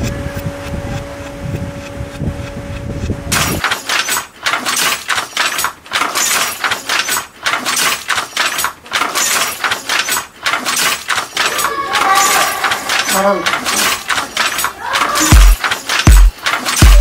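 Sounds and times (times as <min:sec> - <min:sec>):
handloom clacking and rattling: 0:03.3 - 0:17.0.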